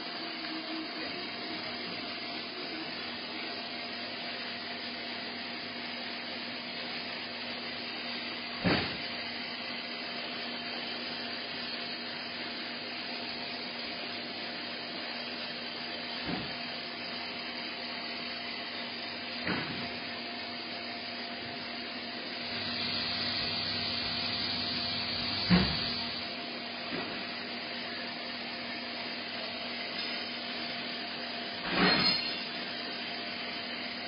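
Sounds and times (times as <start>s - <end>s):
machining center whirring: 0.0s - 34.0s.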